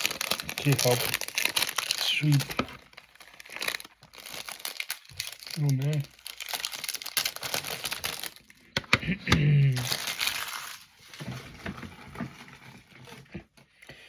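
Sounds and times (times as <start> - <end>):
packaging crinkling and tearing: 0.0 - 8.9, 9.5 - 13.4.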